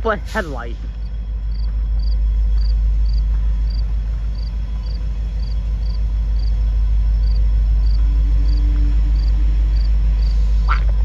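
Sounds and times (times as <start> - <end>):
diesel locomotive rumbling: 0.0 - 11.0
insect chirping: 0.9 - 10.8.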